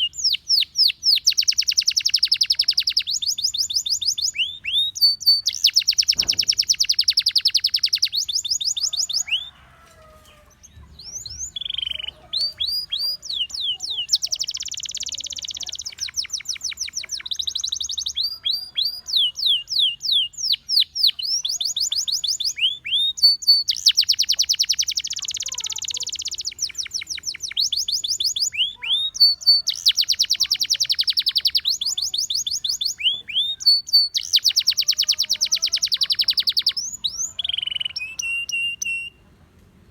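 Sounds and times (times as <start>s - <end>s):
canary singing trills: 0.0s - 39.2s.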